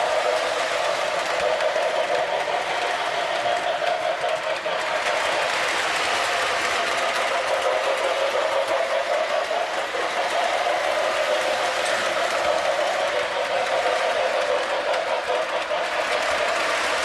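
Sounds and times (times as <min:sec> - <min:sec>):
toy train motor whine: 0:00.0 - 0:17.0.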